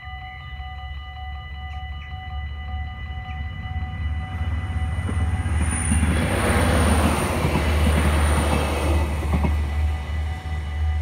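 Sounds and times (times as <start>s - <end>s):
crossing warning bells ringing: 0.0s - 11.0s
diesel train rumbling past: 0.0s - 11.0s.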